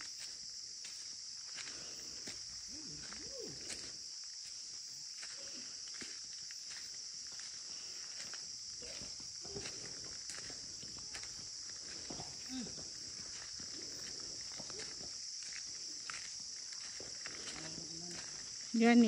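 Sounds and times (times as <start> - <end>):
footsteps on gravel: 0.0 - 18.9
insects droning: 0.0 - 19.0.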